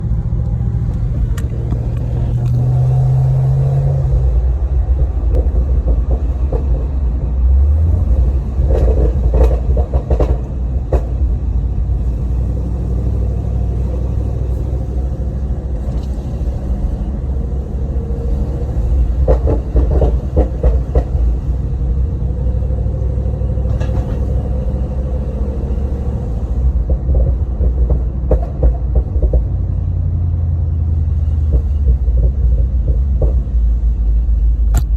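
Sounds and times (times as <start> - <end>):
engine exhaust rumble: 0.0 - 34.9
exhaust popping: 0.0 - 34.9.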